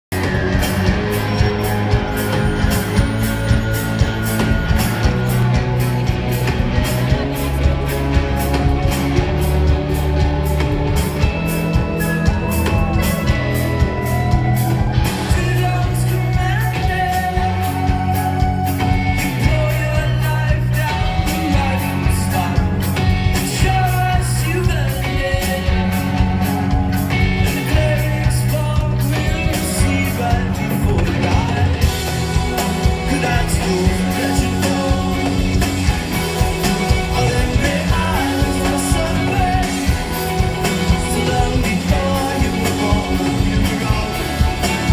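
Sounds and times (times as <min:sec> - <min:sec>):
live rock band playing: 0:00.0 - 0:44.9
lead vocal singing: 0:00.2 - 0:44.9.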